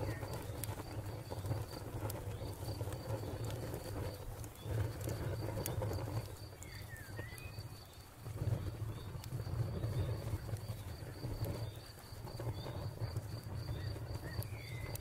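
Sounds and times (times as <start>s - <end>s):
fire crackling with pops: 0.0s - 15.0s
steady low rumble: 0.0s - 15.0s.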